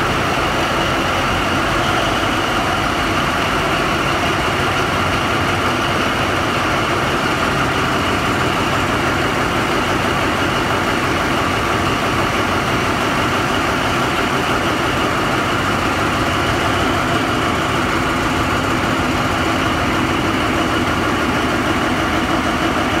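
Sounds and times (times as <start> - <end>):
diesel machinery droning: 0.0 - 23.0.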